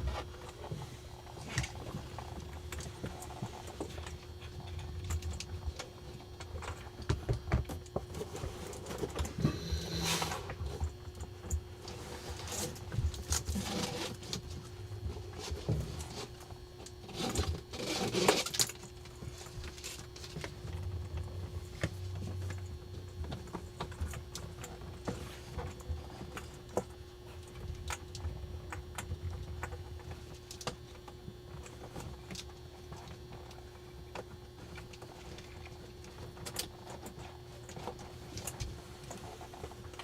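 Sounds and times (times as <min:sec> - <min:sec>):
wires rustling and scraping: 0:00.0 - 0:30.8, 0:31.5 - 0:40.0
faint steady hum: 0:00.0 - 0:40.0.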